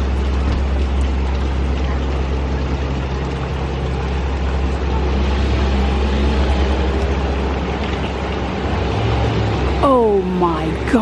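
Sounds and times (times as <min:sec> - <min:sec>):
crane engine droning: 0:00.0 - 0:11.0.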